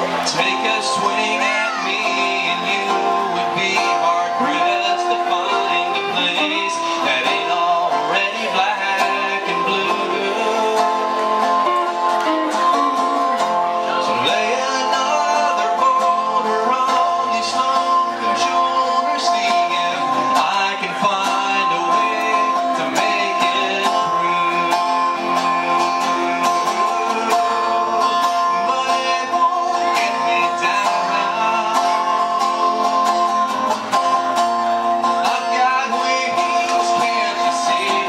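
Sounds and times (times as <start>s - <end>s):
guitar strumming chords: 0.0s - 38.0s.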